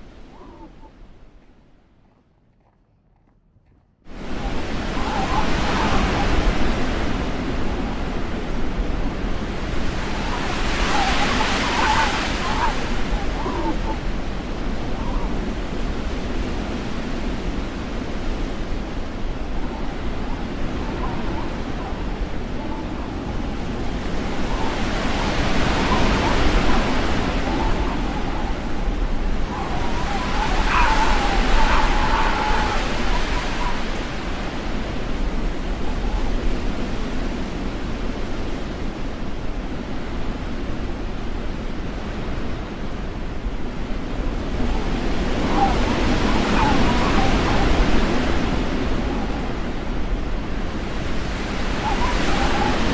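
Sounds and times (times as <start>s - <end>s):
wind buffeting microphone: 0.0s - 52.9s
strong wind rushing: 4.1s - 38.7s, 43.6s - 52.9s.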